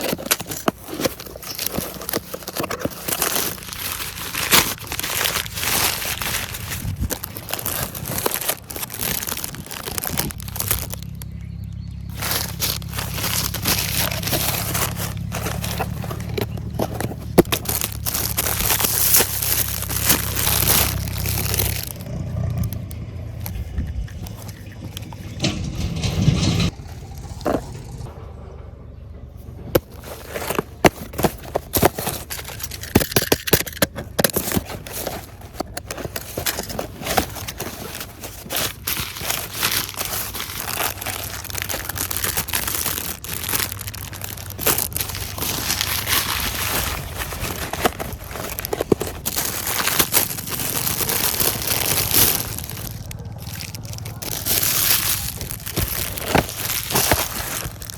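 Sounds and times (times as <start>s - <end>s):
crinkling and scraping handling noises: 0.0s - 28.7s, 29.3s - 57.9s.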